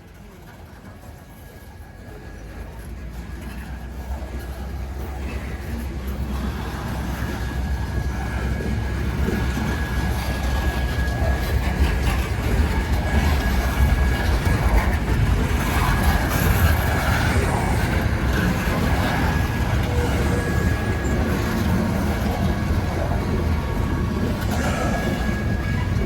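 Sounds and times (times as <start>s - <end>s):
train cars rolling on rails: 0.0s - 26.0s.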